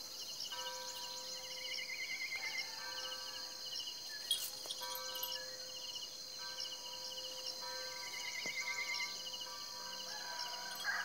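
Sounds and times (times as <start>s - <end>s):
insects chirping: 0.0s - 11.0s
low steady insect tone: 0.0s - 11.0s.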